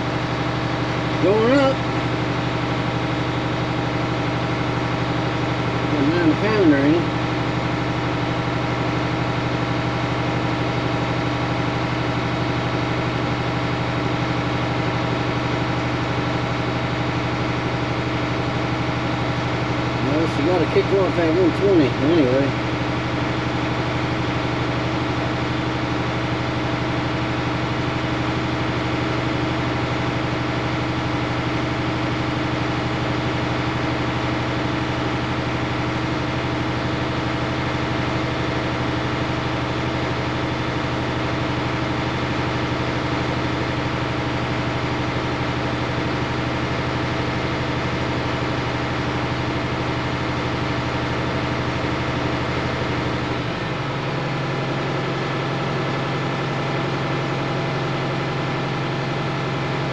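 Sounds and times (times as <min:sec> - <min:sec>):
air compressor building pressure: 0:00.0 - 0:59.9
diesel engine idling: 0:00.0 - 0:59.9.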